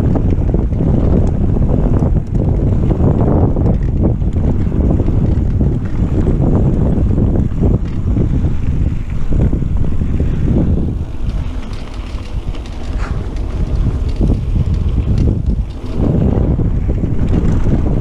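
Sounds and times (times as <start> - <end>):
bike knocks and rattles: 0.0 - 18.0
tyre rumble: 0.0 - 18.0
wind buffeting microphone: 0.0 - 18.0.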